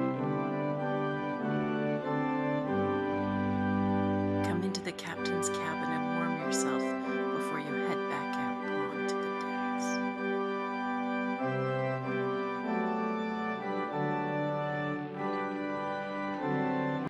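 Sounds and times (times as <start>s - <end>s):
slow organ chords: 0.0s - 17.0s.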